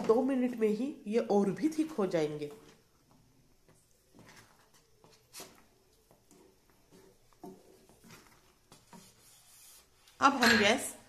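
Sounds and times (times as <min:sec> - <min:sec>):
wooden spatula stirring oats in pan: 0:00.0 - 0:11.0.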